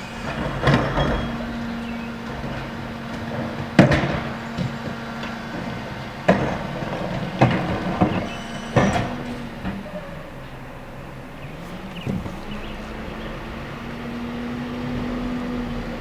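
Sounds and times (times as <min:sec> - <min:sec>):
cans and refuse banging: 0:00.0 - 0:16.0
garbage truck engine hum: 0:00.0 - 0:16.0.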